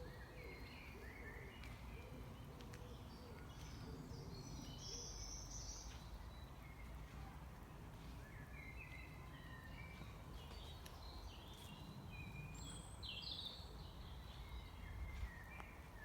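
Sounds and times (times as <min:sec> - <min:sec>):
forest birds chirping: 0:00.0 - 0:16.0.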